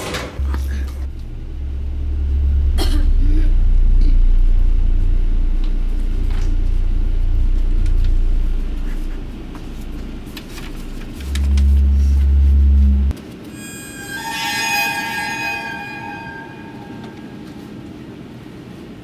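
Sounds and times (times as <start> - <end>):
deep rumbling drone: 0.4 - 17.7
low steady hum: 0.4 - 18.3.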